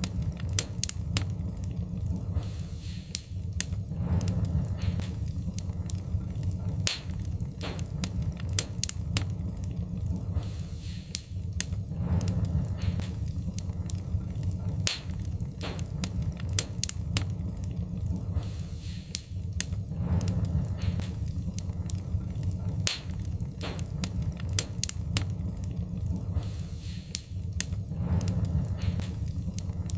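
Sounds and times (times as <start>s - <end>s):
low rumble of flames: 0.0s - 29.9s
wood fire crackling and popping: 0.0s - 29.9s.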